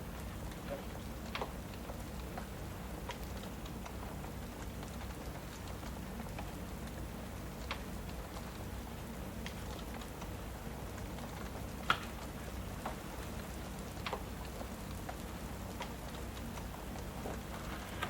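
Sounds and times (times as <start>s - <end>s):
fireplace crackling and popping: 0.0s - 18.0s
steady rain: 0.0s - 18.0s.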